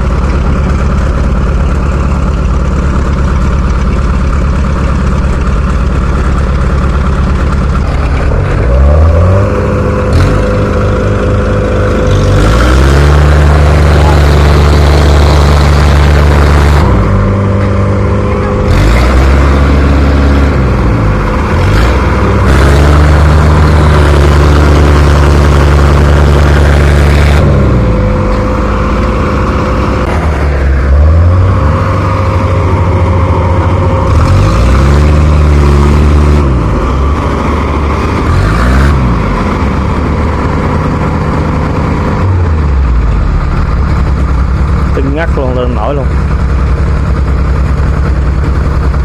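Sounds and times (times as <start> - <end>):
heavy machine engines revving: 0.0 - 49.0.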